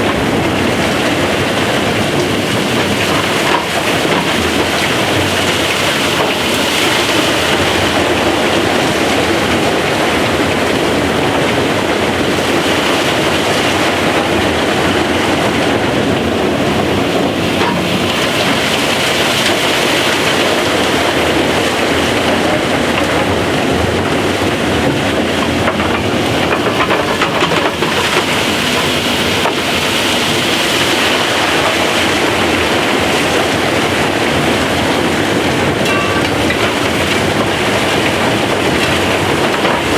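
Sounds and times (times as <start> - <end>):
digging machine running: 0.0 - 39.9.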